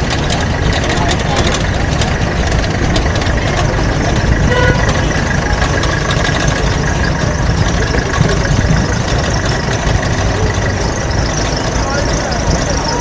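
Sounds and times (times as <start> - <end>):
street din: 0.0 - 13.0
vehicle engines rumbling: 0.0 - 13.0.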